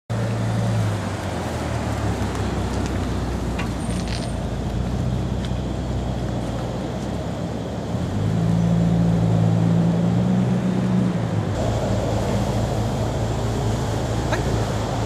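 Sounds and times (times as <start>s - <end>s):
car engine humming: 0.1s - 15.0s.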